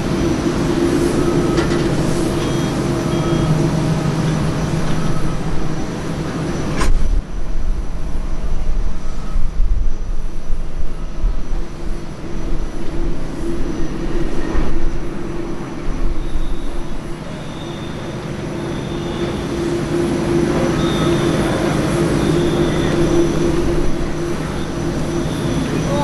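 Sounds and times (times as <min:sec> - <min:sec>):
jet engines rumbling: 0:00.0 - 0:26.0
steady hum: 0:00.0 - 0:26.0.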